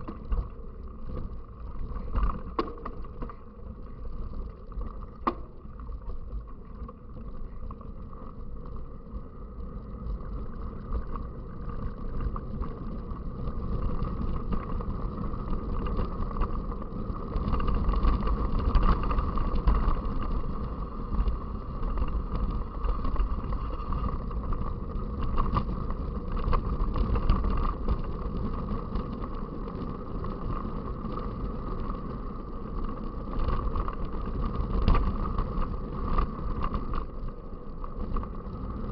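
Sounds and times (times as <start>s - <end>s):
bike rattling over rough ground: 0.0s - 38.9s
wind on microphone: 0.0s - 38.9s.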